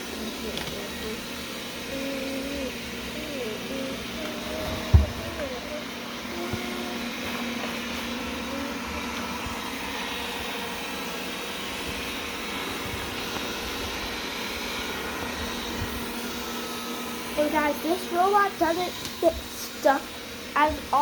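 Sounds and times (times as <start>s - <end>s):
robot vacuum motor whir: 0.0s - 21.0s.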